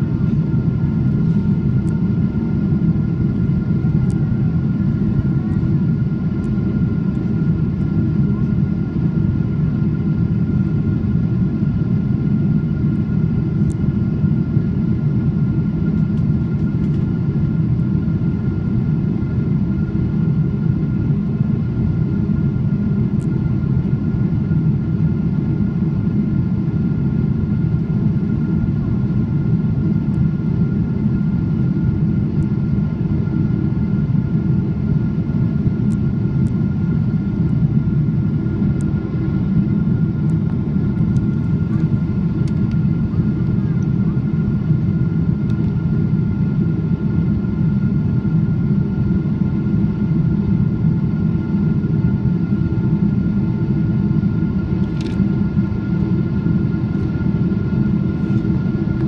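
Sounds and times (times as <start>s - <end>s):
thin steady whine: 0.0s - 59.0s.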